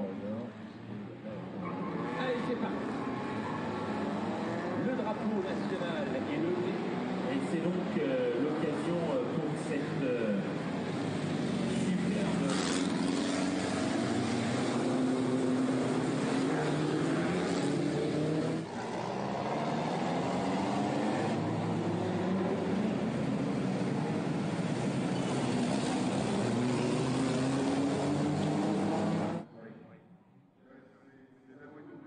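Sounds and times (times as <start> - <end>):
racing car engines accelerating: 0.6 - 29.5.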